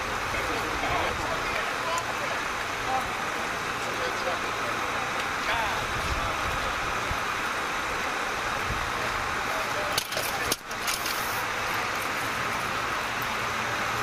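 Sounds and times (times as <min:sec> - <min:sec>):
vehicles idling: 0:00.0 - 0:14.0.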